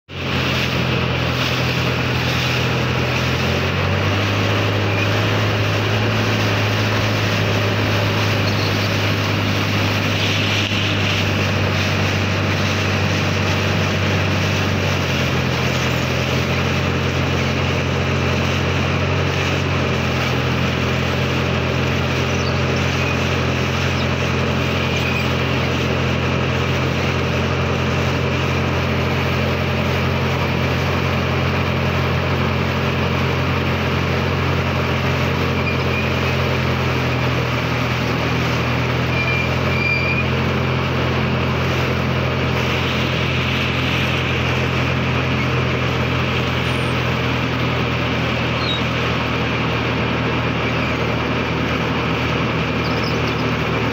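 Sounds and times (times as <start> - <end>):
motorboat engine running: 0.0 - 53.9
water rushing past hull: 0.1 - 53.9.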